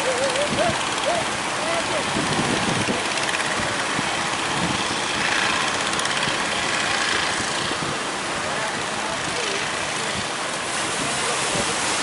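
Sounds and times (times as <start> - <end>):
boat engines running: 0.0 - 12.0
surf rushing: 0.0 - 12.0
wind: 0.0 - 12.0.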